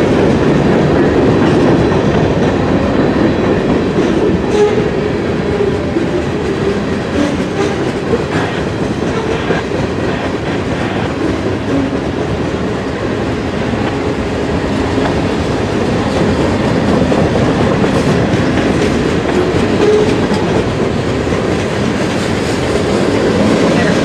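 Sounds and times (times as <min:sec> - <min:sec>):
train wheels rolling on rails: 0:00.0 - 0:24.0.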